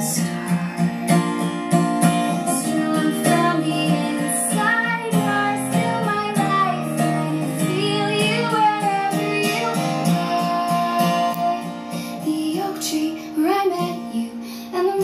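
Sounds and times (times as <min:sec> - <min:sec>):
plucked guitar: 0:00.0 - 0:15.0
woman singing: 0:00.0 - 0:15.0.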